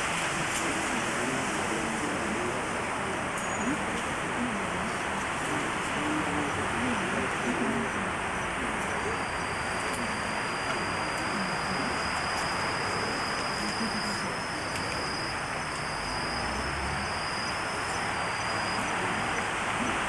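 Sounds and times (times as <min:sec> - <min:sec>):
high-pitched whine: 0:00.0 - 0:20.0
videotape hiss: 0:00.0 - 0:20.0.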